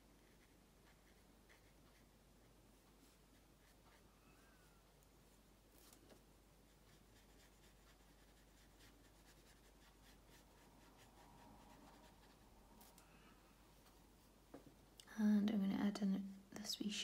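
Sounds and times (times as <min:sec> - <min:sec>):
brush strokes on paper: 0:00.0 - 0:14.4.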